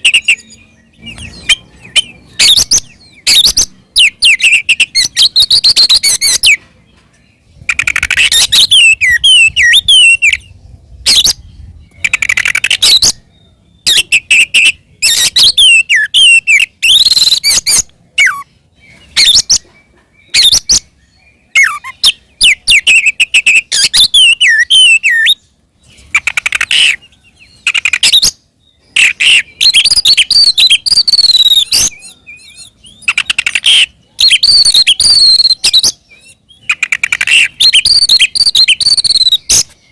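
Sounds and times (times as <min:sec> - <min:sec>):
bird singing whistles and chatter: 0:00.0 - 0:06.7, 0:07.4 - 0:39.9.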